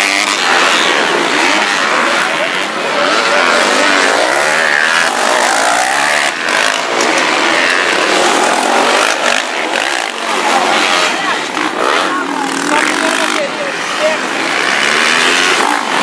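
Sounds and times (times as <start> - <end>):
motocross bikes racing: 0.0 - 16.0.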